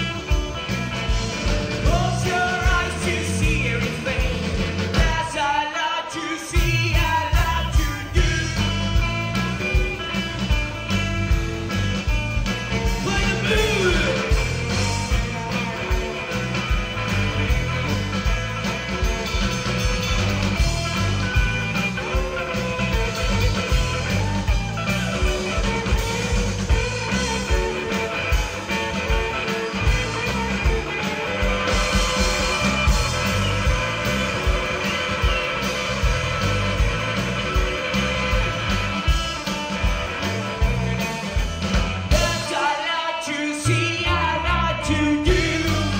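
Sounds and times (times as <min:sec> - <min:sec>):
steady drum beat: 0:00.0 - 0:05.6, 0:06.4 - 0:44.2, 0:44.8 - 0:45.9
bass: 0:00.0 - 0:45.9
electric guitar: 0:00.0 - 0:45.9.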